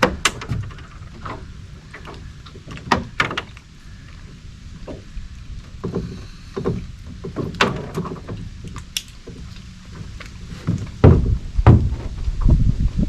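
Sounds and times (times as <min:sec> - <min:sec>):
knocks and thumps in boat: 0:00.0 - 0:12.6.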